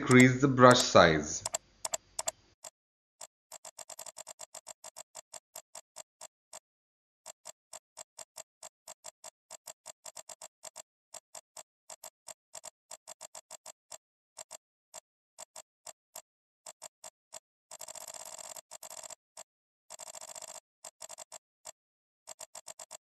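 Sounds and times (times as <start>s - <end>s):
computer mouse clicking: 1.4s - 2.4s, 3.2s - 6.6s, 7.2s - 23.0s.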